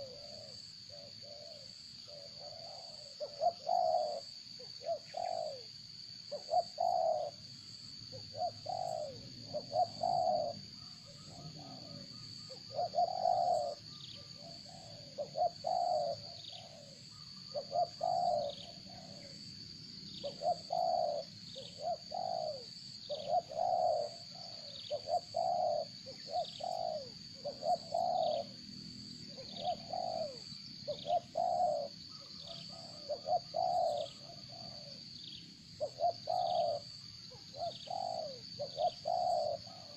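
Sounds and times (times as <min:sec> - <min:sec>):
low cooing bird call: 0:00.0 - 0:39.9.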